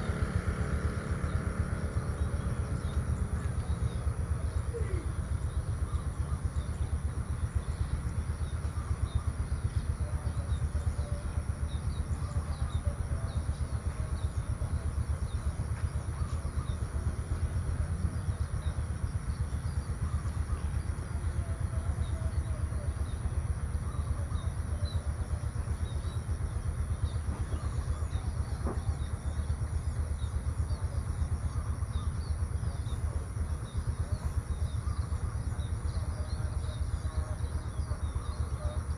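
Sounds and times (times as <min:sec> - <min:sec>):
faint bird chirps: 0:00.0 - 0:38.9.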